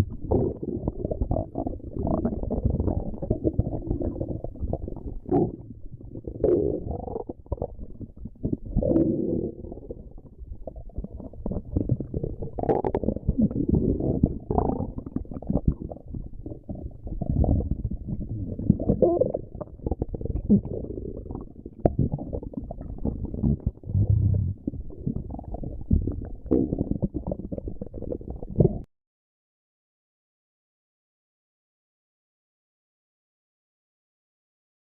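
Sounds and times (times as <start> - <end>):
stomach growling: 0.0 - 28.9.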